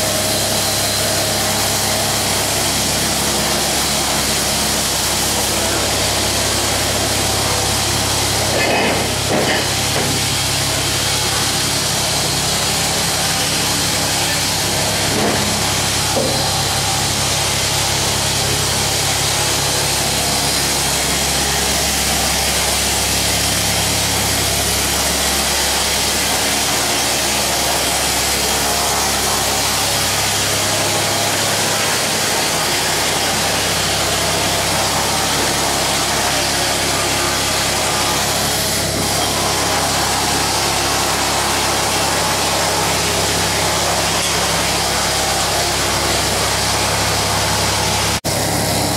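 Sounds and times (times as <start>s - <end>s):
machine running with low hum: 0.0s - 48.9s.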